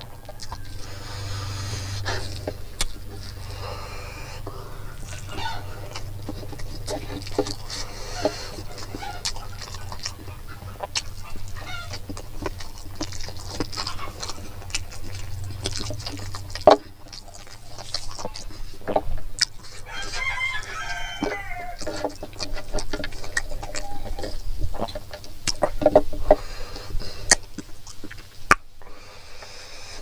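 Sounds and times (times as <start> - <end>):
chicken calling: 0.0 - 18.7, 19.5 - 25.0
wet mouth clicks and smacks: 0.0 - 28.7
man chewing food: 0.0 - 30.0.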